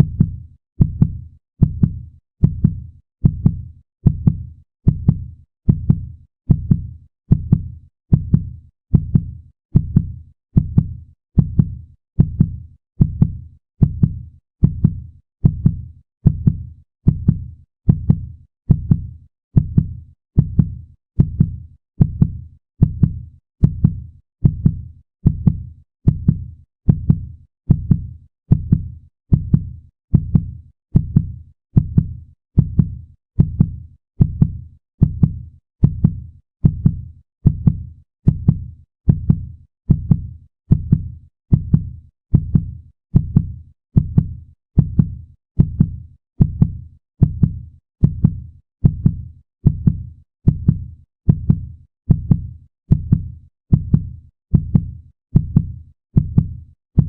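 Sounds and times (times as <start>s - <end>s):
heartbeat thuds: 0.0s - 57.0s.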